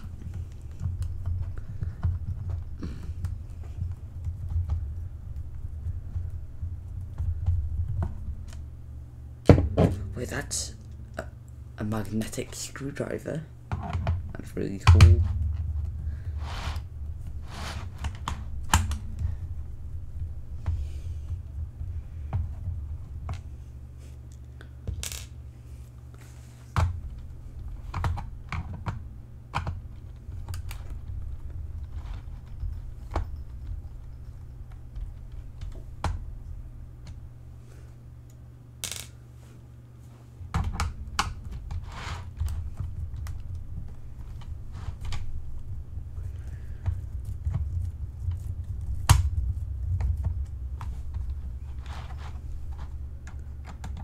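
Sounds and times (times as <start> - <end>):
low rumble of handling: 0.0 - 54.0.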